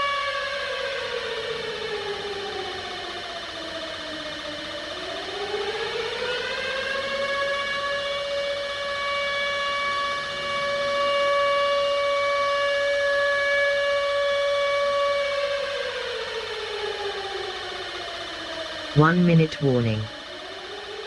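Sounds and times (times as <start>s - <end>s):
air-raid siren: 0.0s - 21.0s.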